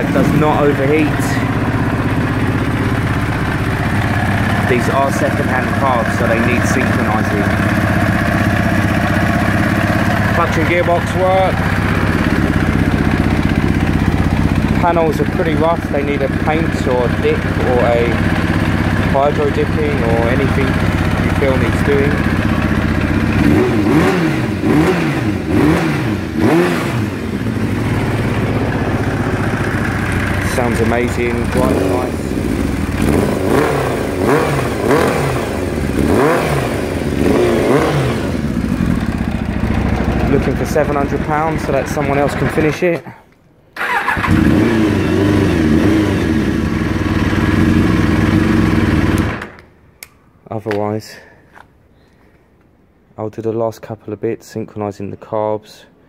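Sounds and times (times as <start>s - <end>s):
motorcycle engine idling and revving: 0.0s - 43.0s, 43.8s - 49.7s.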